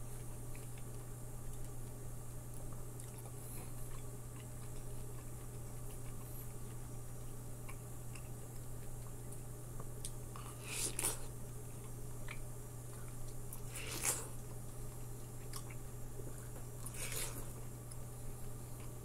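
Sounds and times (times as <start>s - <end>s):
mouth chewing juicy melon: 0.0s - 19.0s.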